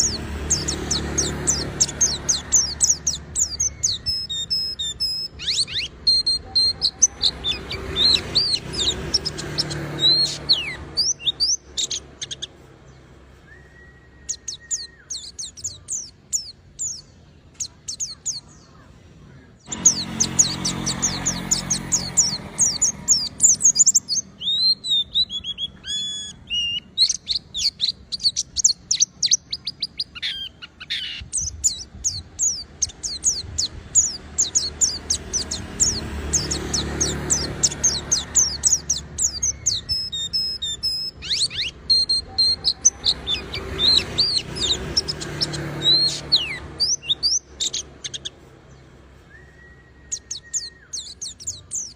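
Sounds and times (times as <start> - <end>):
bird twittering and trilling: 0.0 - 51.9.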